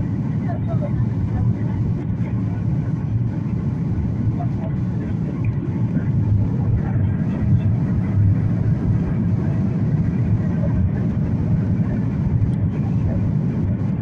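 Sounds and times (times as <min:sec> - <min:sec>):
jet cabin engine rumble: 0:00.0 - 0:14.0.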